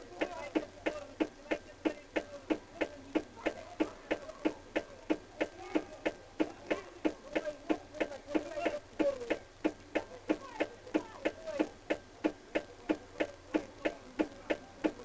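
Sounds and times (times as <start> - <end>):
sharp ticking: 0.0 - 15.0.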